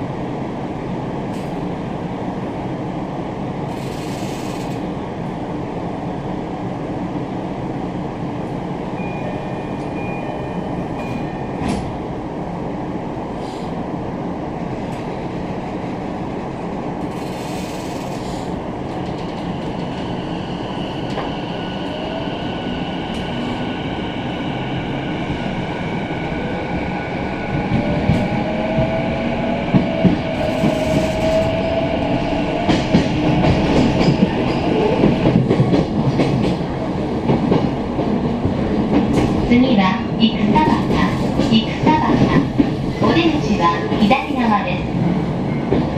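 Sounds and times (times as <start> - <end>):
train car rumble and clatter: 0.0 - 45.9.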